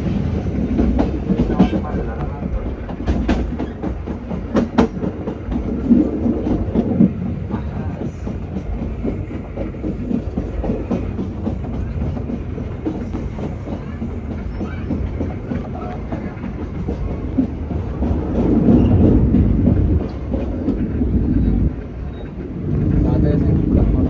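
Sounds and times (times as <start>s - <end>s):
train carriage rumbling: 0.0s - 24.0s
wheels clicking over rail joints: 0.4s - 23.8s.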